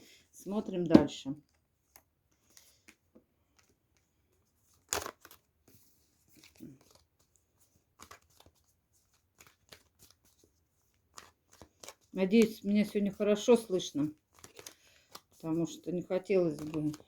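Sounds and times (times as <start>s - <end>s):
cards clicking and rustling: 1.4s - 17.0s.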